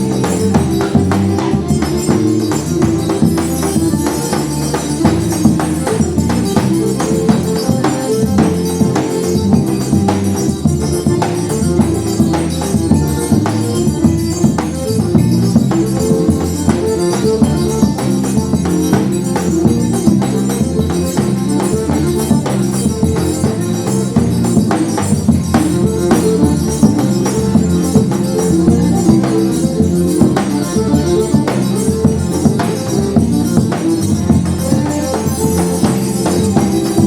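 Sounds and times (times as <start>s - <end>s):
accordion melody: 0.0s - 37.0s
jingling triangle: 0.0s - 37.0s.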